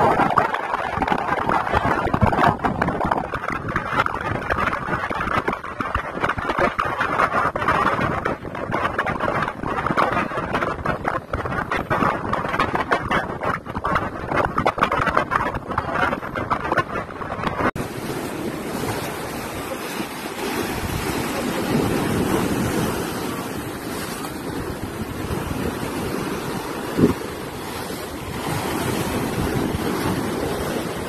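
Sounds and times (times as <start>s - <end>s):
waves breaking on rocky shore: 0.0s - 31.0s
wind buffeting microphone: 0.0s - 31.0s.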